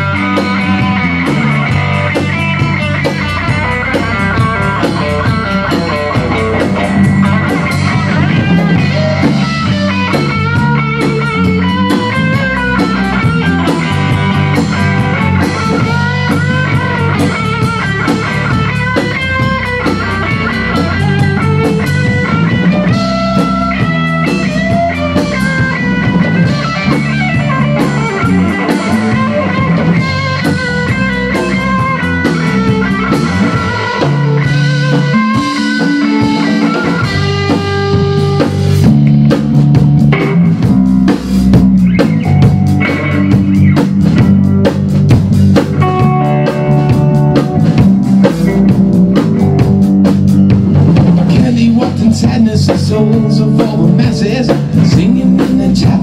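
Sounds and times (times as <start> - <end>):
bass guitar: 0.0 - 56.0
drum kit and cymbals: 0.0 - 56.0
electric guitar melody: 0.0 - 56.0.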